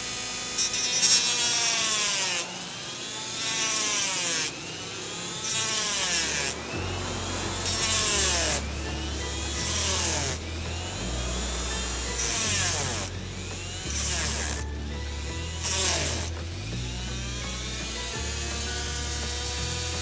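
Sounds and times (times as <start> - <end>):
rotary tool grinding whine: 0.0 - 20.0.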